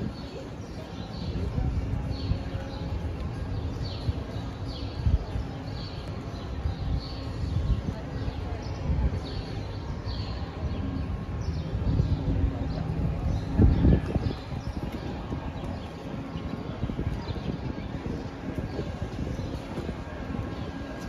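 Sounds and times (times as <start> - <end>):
birds chirping: 0.0 - 21.0
low outdoor rumble: 0.0 - 21.0.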